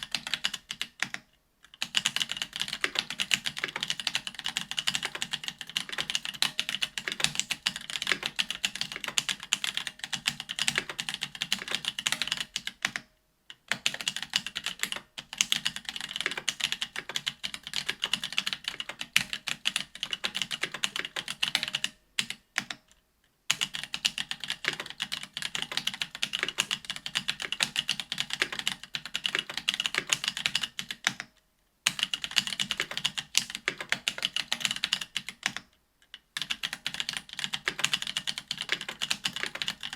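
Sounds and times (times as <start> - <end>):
fast mechanical keyboard typing: 0.0 - 13.0, 13.7 - 22.8, 23.5 - 31.3, 31.9 - 35.7, 36.4 - 39.9.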